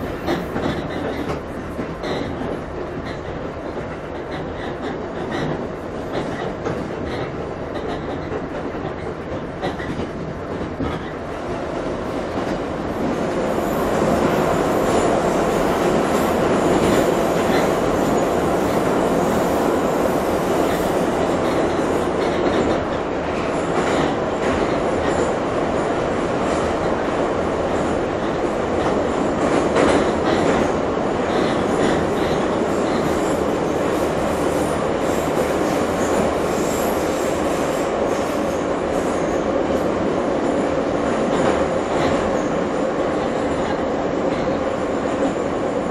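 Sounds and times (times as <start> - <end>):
rail joints clicking: 0.0 - 45.9
train wheels rumbling on rails: 0.0 - 45.9.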